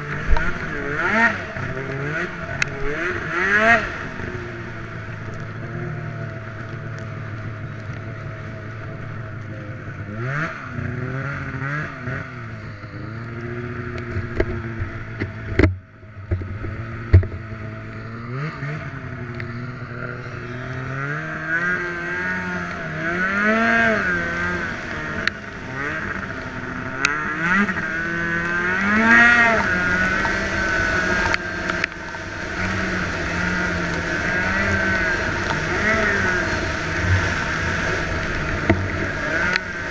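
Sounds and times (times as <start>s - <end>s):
snowmobile engine revving: 0.0s - 15.5s, 16.3s - 39.9s.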